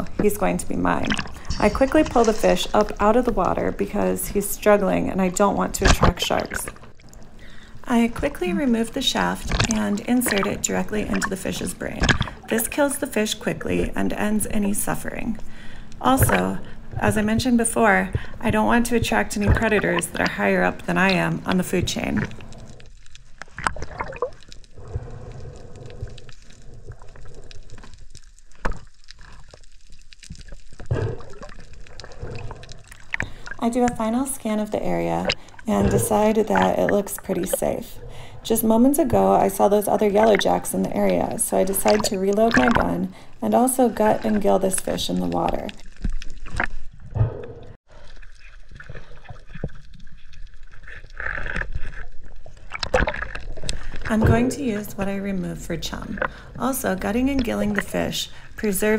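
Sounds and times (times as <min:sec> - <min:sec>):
small clicks and crackles: 0:00.0 - 0:12.6, 0:18.1 - 0:37.6, 0:39.0 - 0:47.0, 0:48.0 - 0:55.1
underwater gurgling and sloshing: 0:00.0 - 0:58.9.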